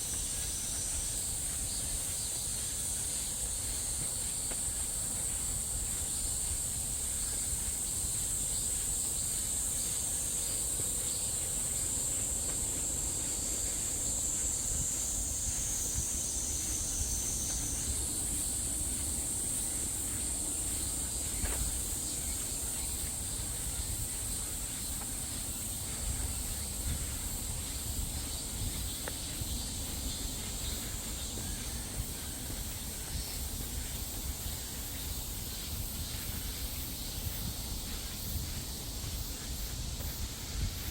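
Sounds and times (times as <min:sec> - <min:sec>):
insects buzzing drone: 0:00.0 - 0:40.9.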